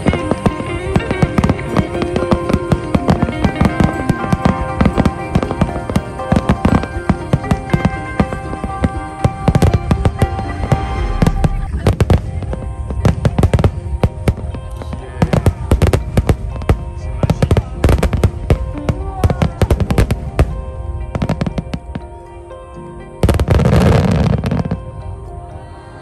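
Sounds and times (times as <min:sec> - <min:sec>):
dense crackling fireworks: 0:00.0 - 0:22.1
fireworks bangs: 0:00.0 - 0:22.1
music: 0:00.0 - 0:26.0.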